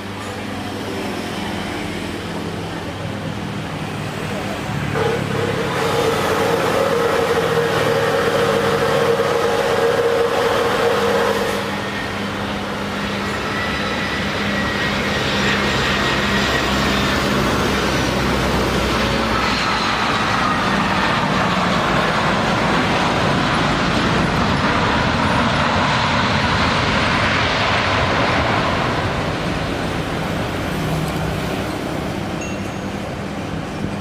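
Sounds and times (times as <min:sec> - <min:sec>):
jet airliner engines roaring: 0:00.0 - 0:34.0.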